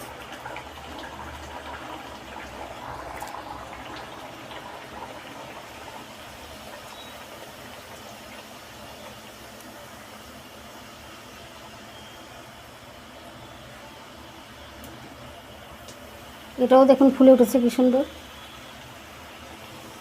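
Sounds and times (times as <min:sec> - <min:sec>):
dough deep-frying in oil: 0:00.0 - 0:20.0.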